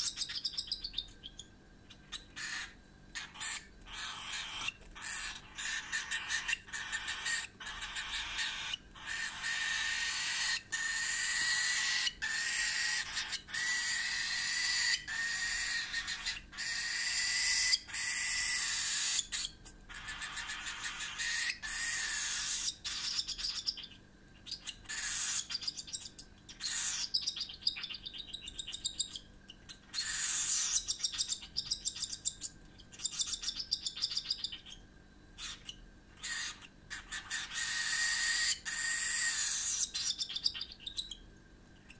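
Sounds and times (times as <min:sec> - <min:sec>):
cockatiel chick begging calls: 0:00.0 - 0:29.2, 0:29.8 - 0:34.8, 0:35.4 - 0:41.2.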